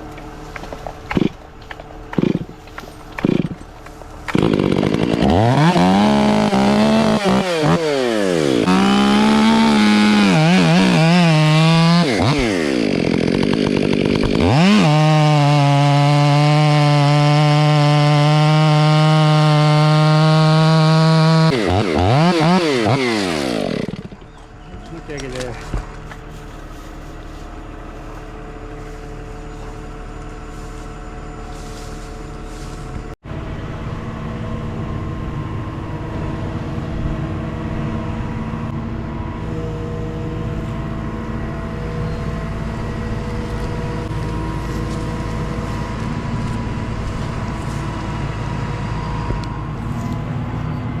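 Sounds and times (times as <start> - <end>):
engine running steadily: 0.0 - 14.8, 22.6 - 51.0.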